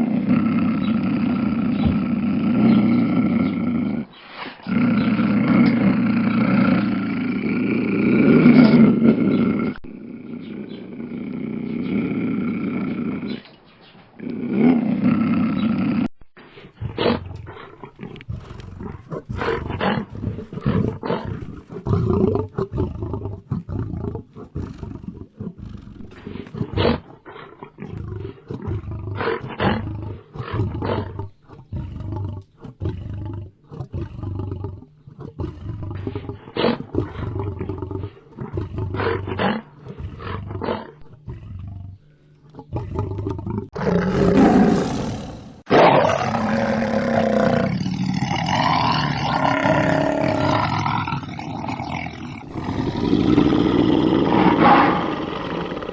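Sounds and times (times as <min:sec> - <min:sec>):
lion roaring: 0:00.0 - 0:13.5, 0:14.2 - 0:55.9.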